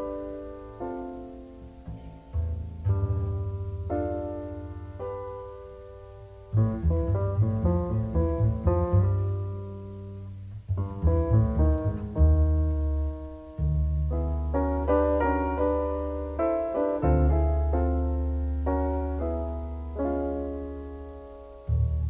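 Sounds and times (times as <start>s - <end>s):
held low bass notes: 0.0s - 22.0s
piano chords: 0.0s - 22.0s.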